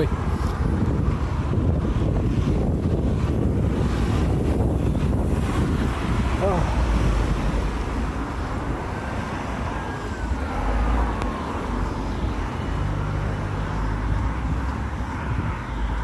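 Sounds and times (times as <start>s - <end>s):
passing vehicle whine: 0.0s - 16.0s
road traffic going by: 0.0s - 16.0s
wind rumbling on microphone: 0.0s - 16.0s.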